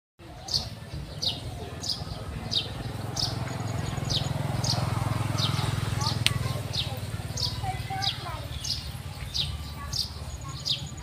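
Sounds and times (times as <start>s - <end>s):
small bird chirping: 0.4s - 11.0s.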